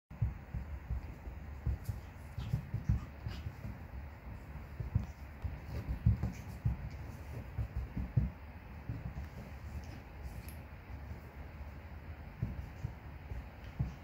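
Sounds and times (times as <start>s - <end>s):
puppy scampering on a rug: 0.2s - 14.0s.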